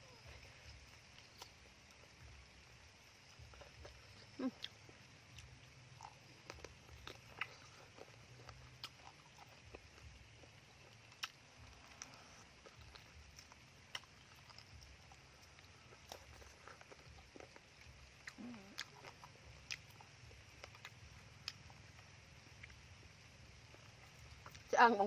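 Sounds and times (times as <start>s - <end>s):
chewing: 0.0s - 2.3s, 3.1s - 24.8s.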